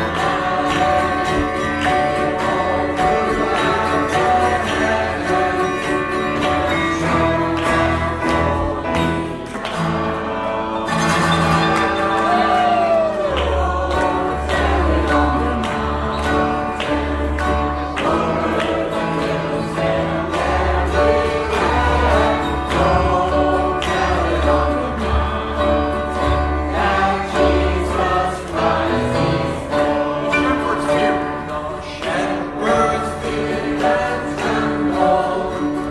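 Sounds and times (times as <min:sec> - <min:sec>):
group singing carol: 0:00.0 - 0:35.9.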